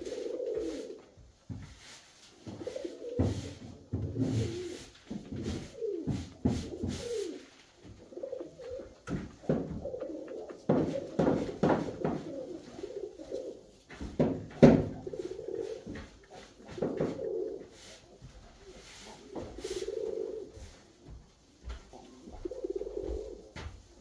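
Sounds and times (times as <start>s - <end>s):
pigeons cooing: 0.0s - 1.3s, 2.4s - 24.0s.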